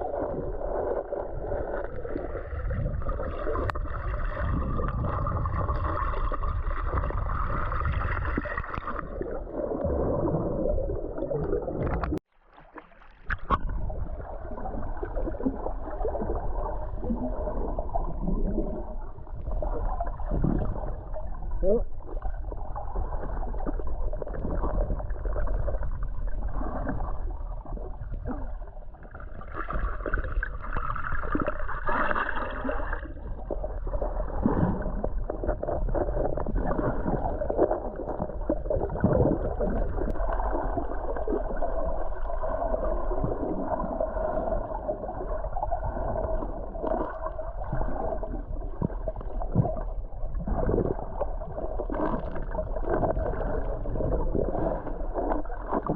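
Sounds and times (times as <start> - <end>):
stream water sloshing and gurgling: 0.0 - 55.9.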